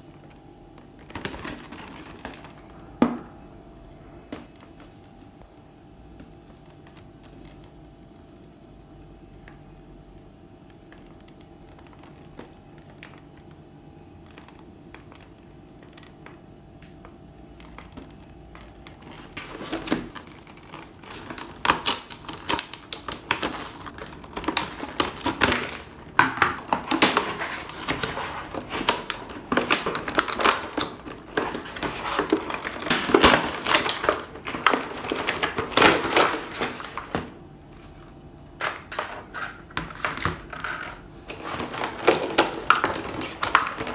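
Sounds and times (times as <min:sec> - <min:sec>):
plastic packaging crackling: 0:00.0 - 0:03.2, 0:10.6 - 0:43.9
faint steady hum: 0:00.0 - 0:43.9.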